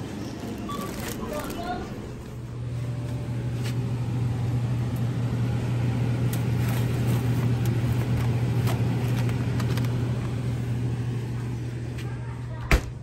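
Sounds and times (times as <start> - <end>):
freezer refrigeration hum: 0.0 - 13.0.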